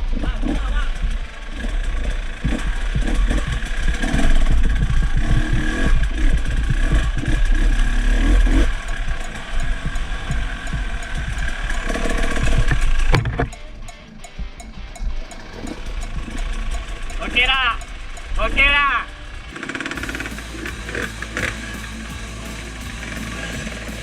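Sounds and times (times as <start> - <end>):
low thumps: 0.0 - 18.7, 19.3 - 24.0
dirt bike engine rumbling: 0.0 - 24.0.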